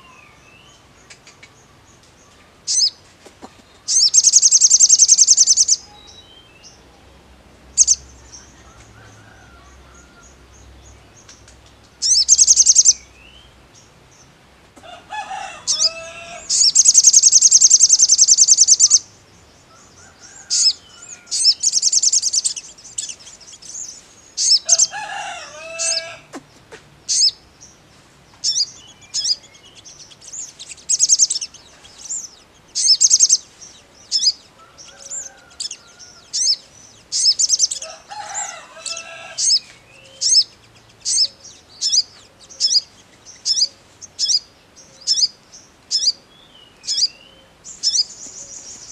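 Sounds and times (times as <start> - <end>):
bird trilling and chirping: 2.7 - 3.0, 3.8 - 6.8, 7.7 - 13.5, 15.1 - 26.3, 27.0 - 27.8, 28.4 - 48.9.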